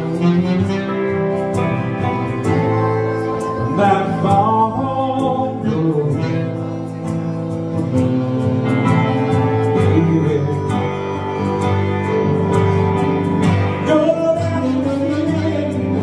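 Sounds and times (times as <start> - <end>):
acoustic guitar strummed: 0.0 - 16.0
electric keyboard chords: 0.0 - 16.0.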